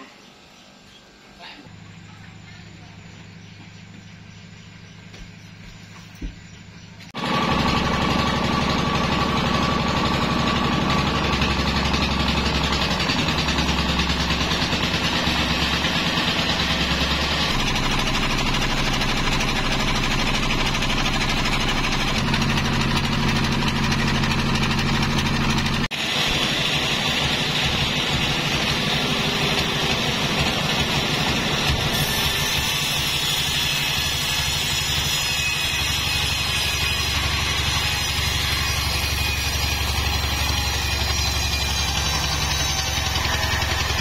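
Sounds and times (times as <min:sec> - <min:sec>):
sawmill machinery droning: 0:00.0 - 0:44.0.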